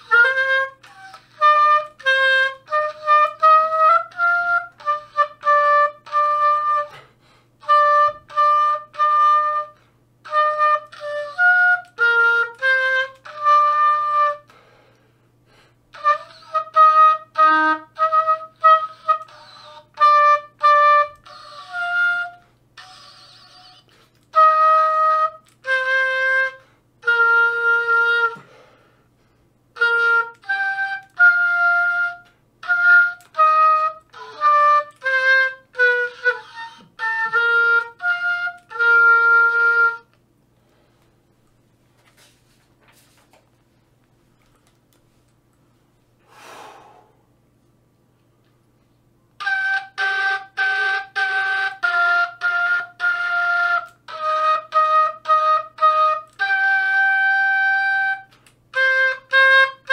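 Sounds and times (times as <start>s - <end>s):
solo oboe: 0.0s - 14.8s, 15.9s - 28.8s, 29.7s - 40.2s, 49.4s - 59.9s.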